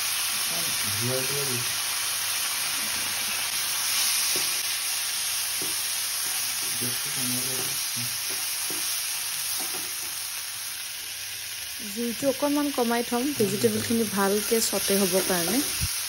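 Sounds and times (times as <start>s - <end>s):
broccoli sizzling in a frying pan: 0.0s - 16.0s.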